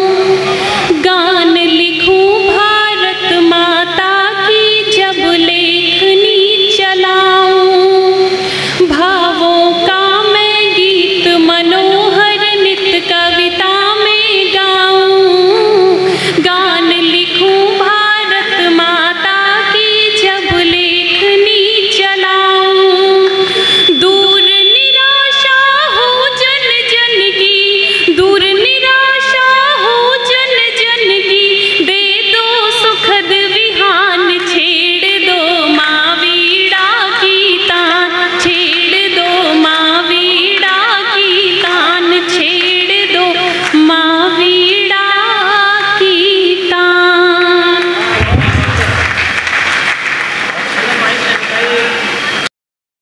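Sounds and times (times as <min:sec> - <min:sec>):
woman singing into microphone: 0:00.0 - 0:48.4.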